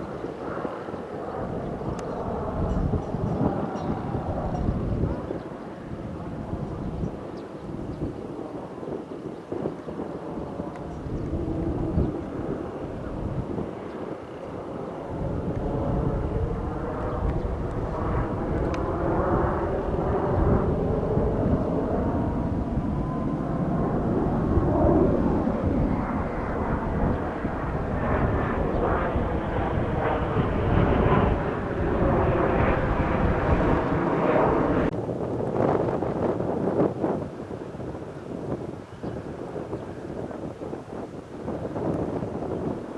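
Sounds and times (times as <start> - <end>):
jet aircraft flying past: 0.0 - 35.0.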